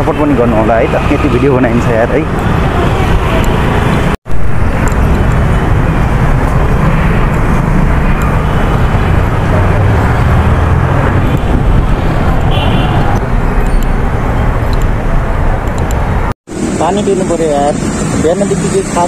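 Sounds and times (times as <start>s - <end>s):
busy street traffic: 0.0s - 19.0s.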